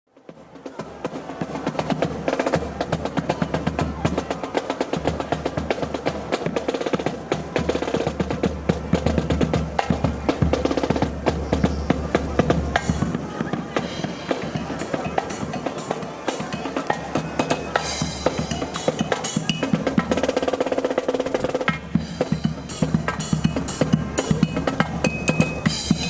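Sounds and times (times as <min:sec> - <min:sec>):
fast snare drum cadence: 0:00.4 - 0:26.0.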